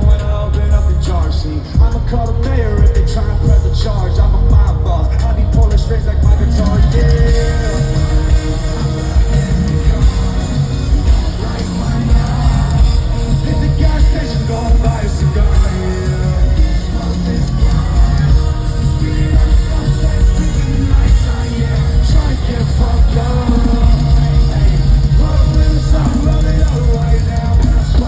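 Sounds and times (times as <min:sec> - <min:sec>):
live rock music with singing: 0:00.0 - 0:28.0.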